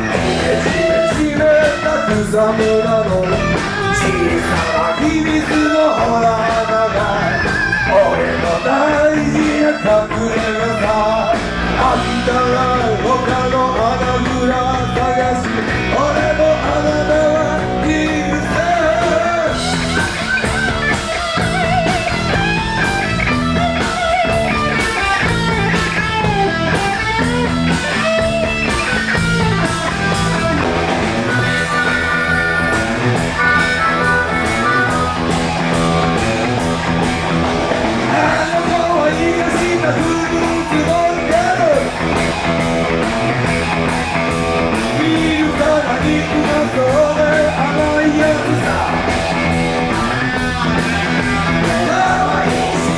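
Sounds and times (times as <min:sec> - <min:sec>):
bass guitar: 0:00.0 - 0:52.9
drum beat with cymbals: 0:00.0 - 0:52.9
electric guitar lead: 0:00.0 - 0:52.9.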